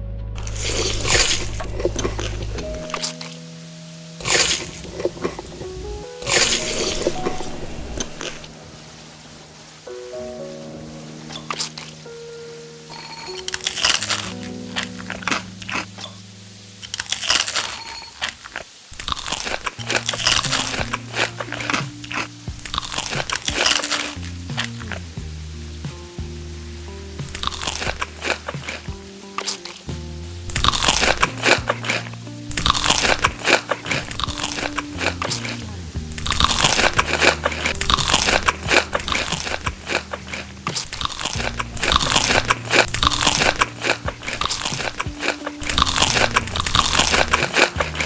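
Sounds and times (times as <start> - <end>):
background music: 0.0 - 18.4, 19.0 - 48.0
crunching crisp food: 0.4 - 3.3, 4.2 - 8.5, 12.9 - 16.2, 16.8 - 25.1, 27.2 - 48.0.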